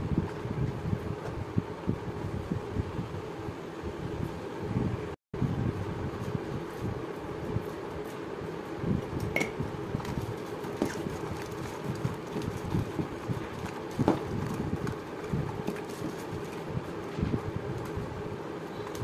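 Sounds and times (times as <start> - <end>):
fan-like hum: 0.0 - 19.0.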